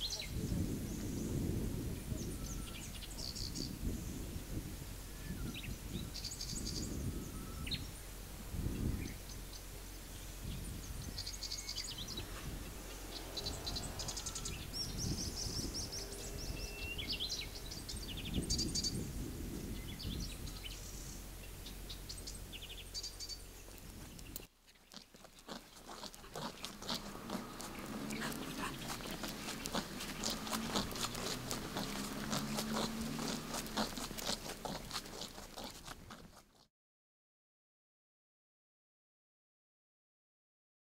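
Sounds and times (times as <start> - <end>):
birds chirping: 0.0 - 36.6
low outdoor rumble: 0.0 - 36.6.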